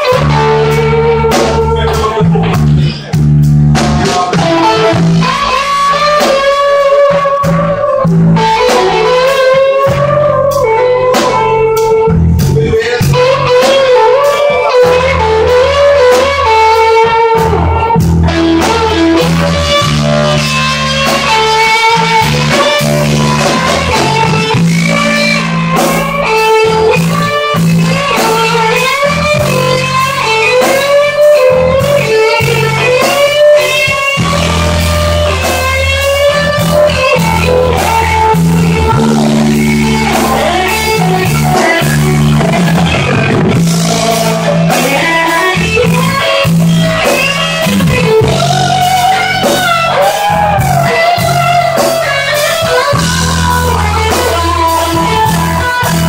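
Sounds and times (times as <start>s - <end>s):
lead guitar bending held notes: 0.0s - 56.0s
rock band playing a ballad: 0.0s - 56.0s.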